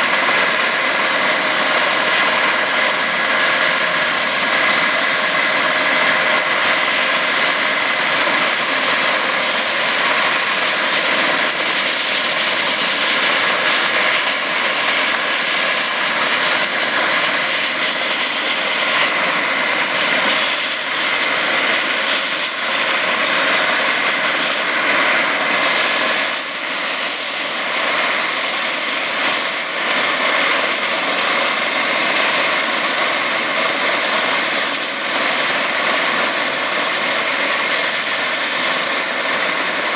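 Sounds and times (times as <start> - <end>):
helicopter turbine and rotor noise: 0.0 - 39.9
high turbine whine: 0.0 - 39.9.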